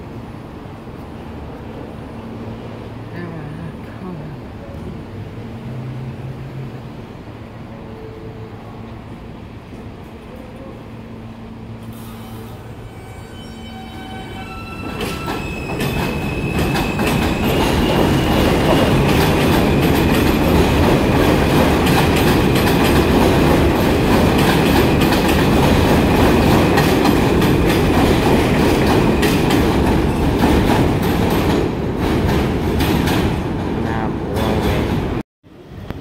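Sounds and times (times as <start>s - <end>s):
subway train clattering over rails: 4.4s - 36.0s.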